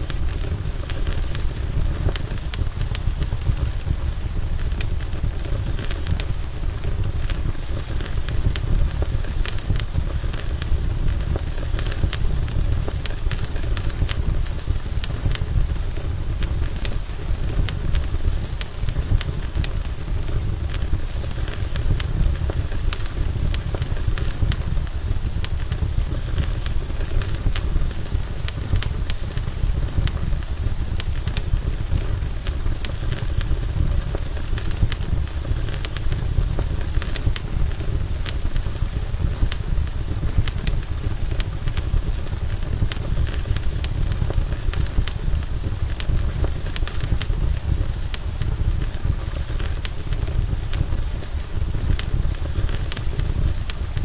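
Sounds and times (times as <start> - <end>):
burning wood crackling and popping: 0.0 - 54.0
campfire rumble: 0.0 - 54.0.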